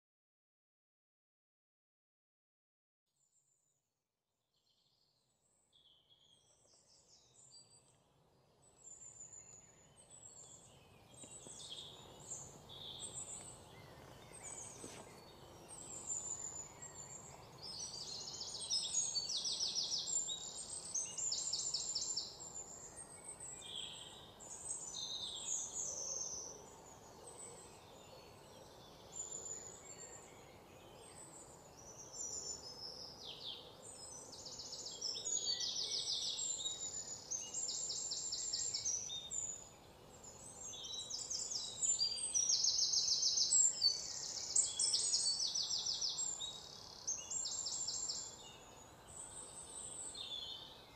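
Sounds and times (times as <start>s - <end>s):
birds calling with trilled notes: 8.7s - 50.9s.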